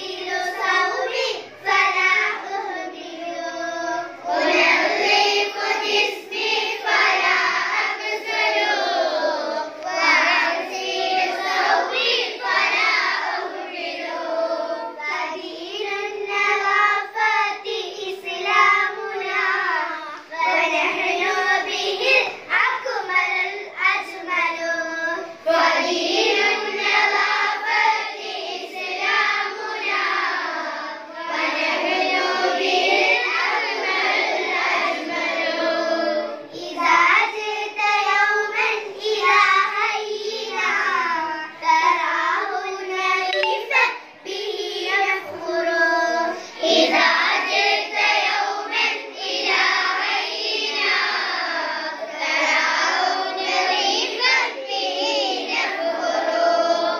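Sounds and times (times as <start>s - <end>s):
girls singing together: 0.0s - 56.9s.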